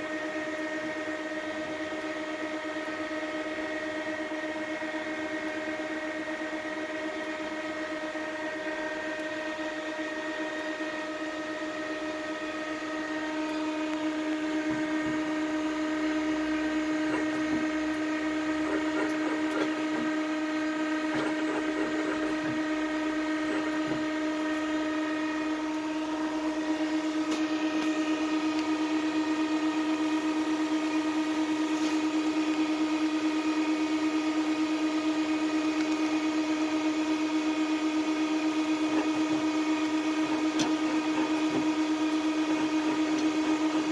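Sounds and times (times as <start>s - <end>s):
machine hum and whine: 0.0s - 43.9s.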